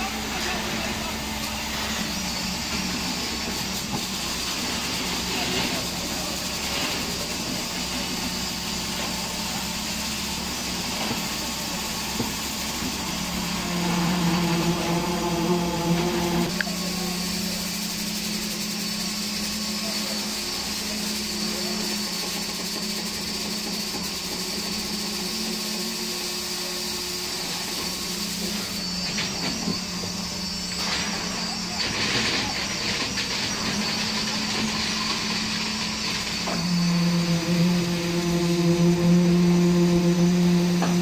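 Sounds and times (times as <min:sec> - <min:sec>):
low hydraulic hum: 0:00.0 - 0:22.6, 0:26.6 - 0:41.0
high hydraulic hiss: 0:00.0 - 0:41.0.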